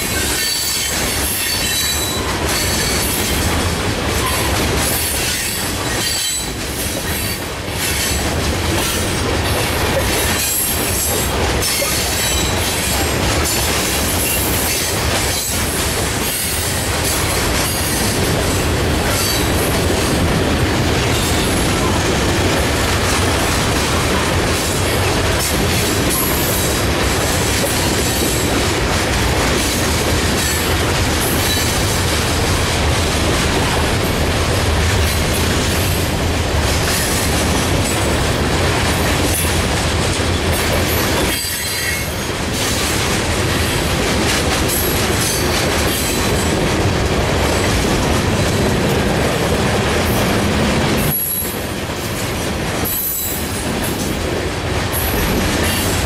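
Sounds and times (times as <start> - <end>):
freight train rumbling past: 0.0 - 56.0
steel wheels clattering on rails: 0.0 - 56.0.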